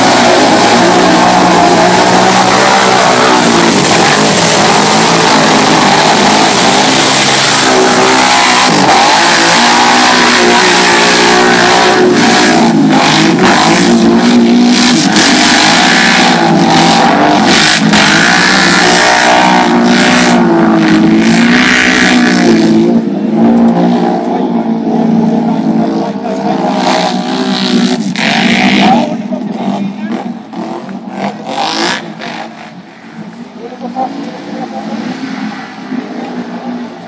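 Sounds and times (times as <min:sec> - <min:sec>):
quad bike engines revving: 0:00.0 - 0:37.0.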